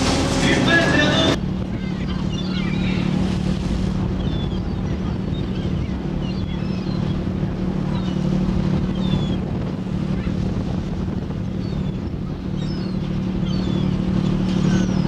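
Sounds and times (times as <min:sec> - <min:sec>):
boat engine humming: 0:00.0 - 0:15.0
gulls calling: 0:00.0 - 0:15.0.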